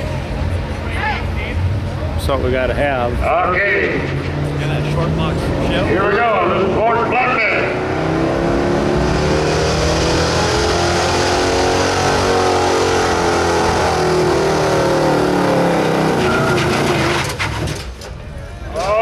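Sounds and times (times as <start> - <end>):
truck engine at full throttle: 0.0 - 18.7.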